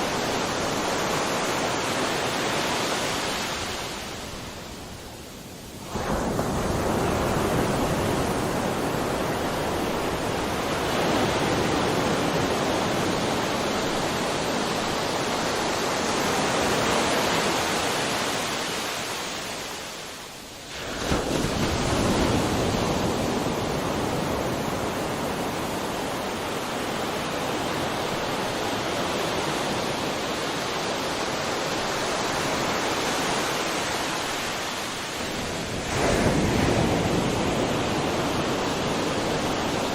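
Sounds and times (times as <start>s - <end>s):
ocean waves breaking: 0.0s - 4.8s, 5.8s - 20.1s, 20.7s - 39.9s.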